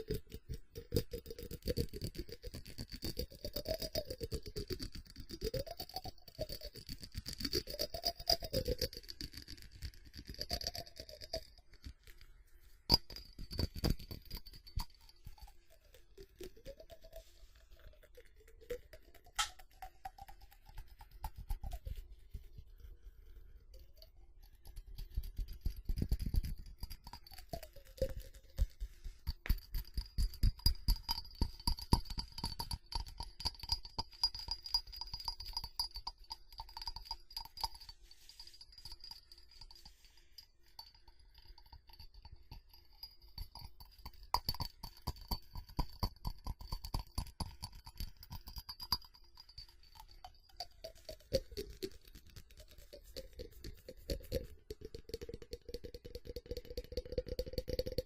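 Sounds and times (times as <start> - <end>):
hand tapping and scratching ceramic: 0.0 - 58.0.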